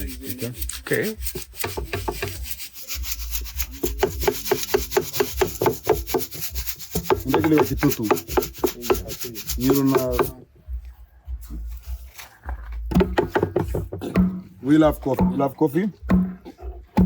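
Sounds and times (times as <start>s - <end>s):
pestle pounding coffee beans: 0.0s - 10.4s, 12.9s - 17.0s.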